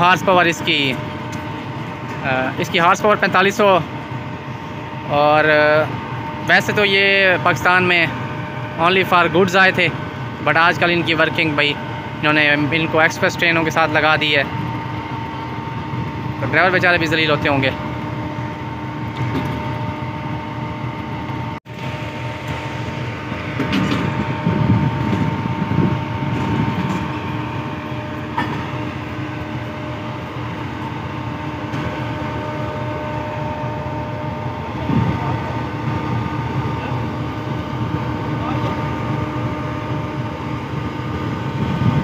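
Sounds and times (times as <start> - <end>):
locomotive engine idling: 0.0 - 42.0.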